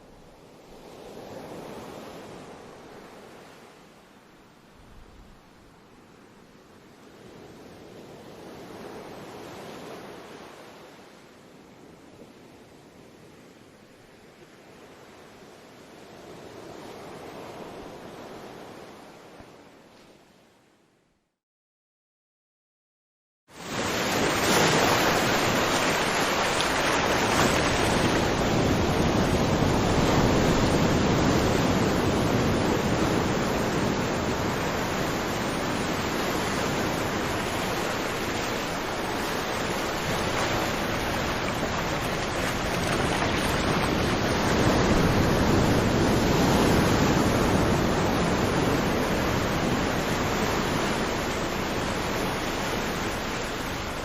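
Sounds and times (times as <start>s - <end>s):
waves breaking on a beach: 0.0s - 20.4s, 23.5s - 54.0s.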